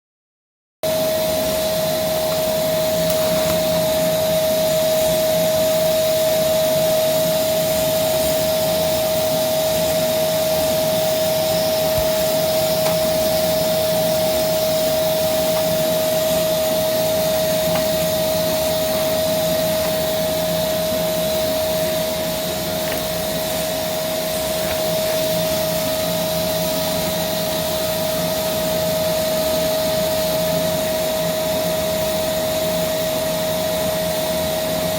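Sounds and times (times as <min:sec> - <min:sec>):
vacuum cleaner running: 0:00.8 - 0:34.9.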